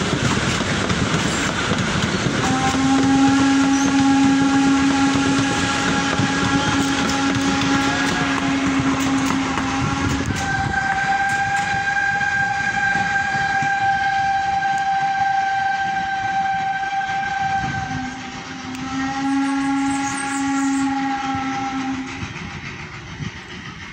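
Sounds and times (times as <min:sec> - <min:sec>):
coaches rumbling on track: 0:00.0 - 0:23.9
steam locomotive whistle: 0:00.0 - 0:23.9.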